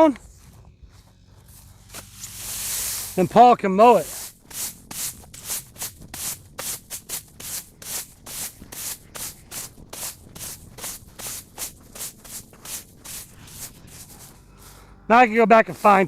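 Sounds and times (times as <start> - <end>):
rake scraping through grass: 0.3 - 16.0.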